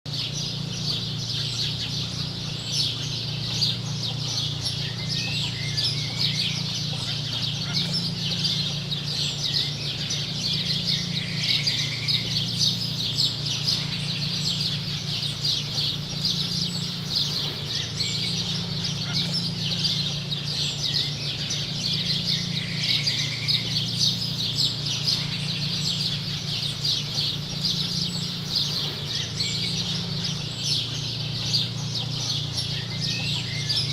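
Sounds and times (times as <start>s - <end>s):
birds chirping: 0.1s - 33.9s
low bird calls: 0.1s - 33.9s
steady low hum: 0.1s - 33.9s.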